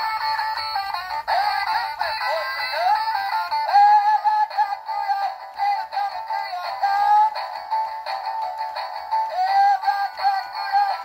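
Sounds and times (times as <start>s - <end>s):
toy singing through small speaker: 0.0s - 11.0s.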